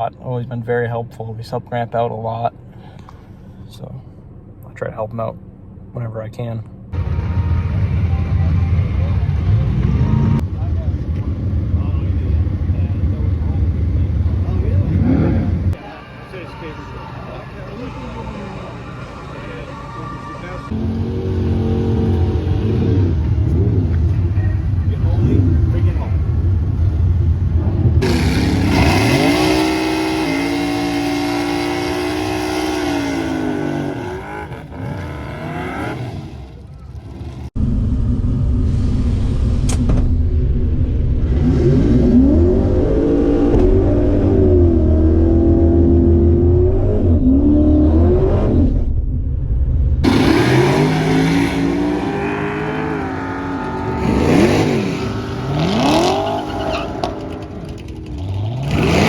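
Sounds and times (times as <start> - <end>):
race car engines revving: 6.9 - 37.6, 40.9 - 49.0, 50.0 - 59.0.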